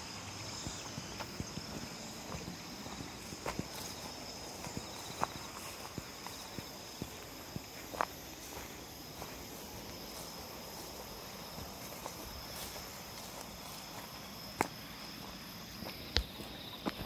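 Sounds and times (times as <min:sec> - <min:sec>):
insects chirring: 0:00.0 - 0:17.0
footsteps: 0:00.2 - 0:17.0.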